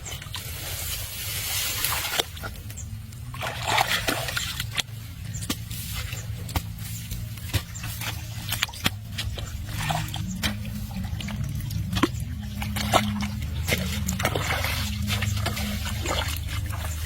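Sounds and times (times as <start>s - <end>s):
small splashes and clicks: 0.0s - 17.0s
steady low hum: 0.0s - 17.0s
water sloshing and trickling: 0.0s - 17.0s.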